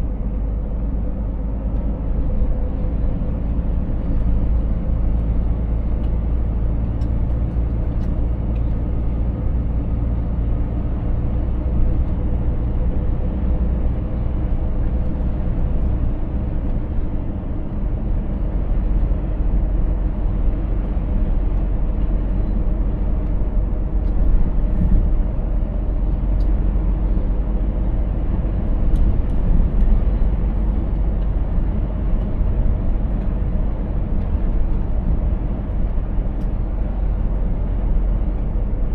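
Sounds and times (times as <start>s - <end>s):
road noise: 0.0s - 38.9s
truck diesel engine droning: 0.0s - 38.9s.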